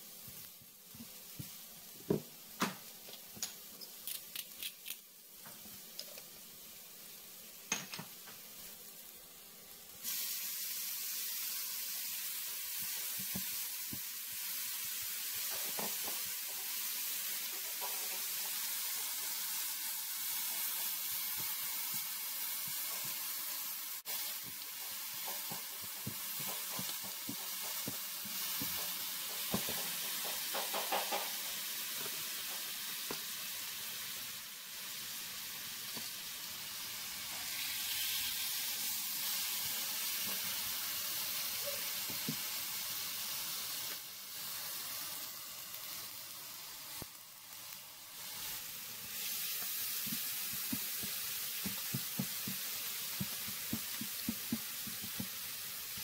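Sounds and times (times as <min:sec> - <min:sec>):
meat sizzling on a griddle: 0:00.0 - 0:56.0.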